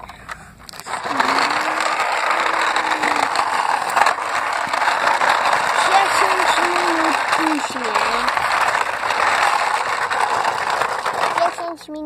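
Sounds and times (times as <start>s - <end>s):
toy bus rolling on asphalt: 0.0s - 12.0s.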